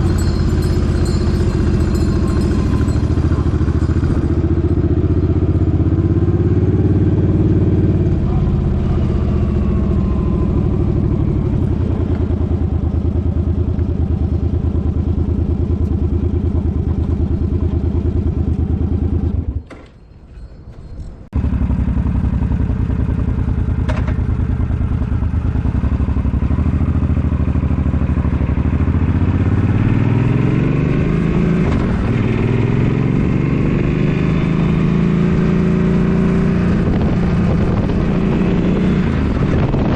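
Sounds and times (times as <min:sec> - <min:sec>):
motorcycle engine running: 0:00.0 - 0:19.7, 0:21.3 - 0:39.9.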